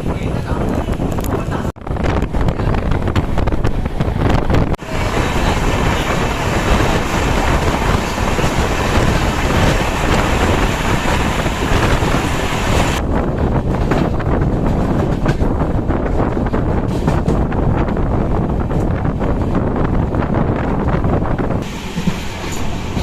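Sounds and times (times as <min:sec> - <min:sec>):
train rumbling: 0:00.0 - 0:23.0
wind rushing over microphone: 0:00.0 - 0:23.0.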